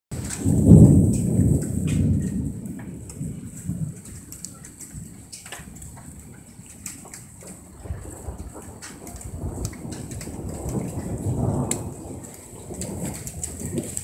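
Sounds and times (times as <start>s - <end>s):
heavy rain falling: 0.1s - 14.0s
thunder rumbling: 0.1s - 14.0s
water dripping: 0.2s - 14.0s.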